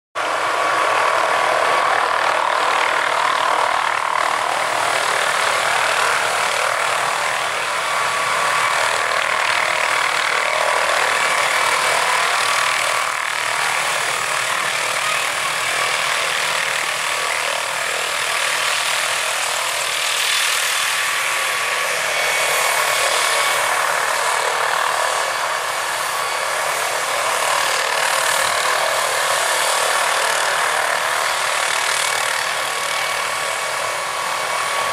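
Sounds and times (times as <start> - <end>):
helicopter engine and rotor: 0.2 - 34.9.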